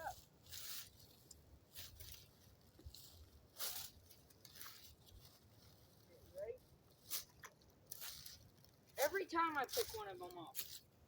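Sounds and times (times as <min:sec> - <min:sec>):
faint rustling and scuffing: 0:00.0 - 0:11.0.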